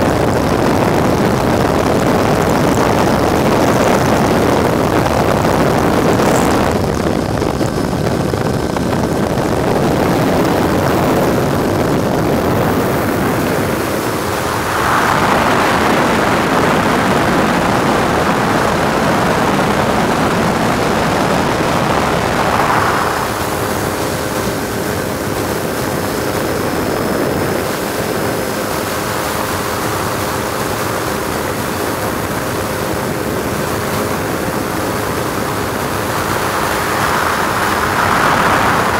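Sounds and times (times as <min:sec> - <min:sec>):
helicopter rotor running: 0:00.0 - 0:38.9
wind noise: 0:00.0 - 0:38.9.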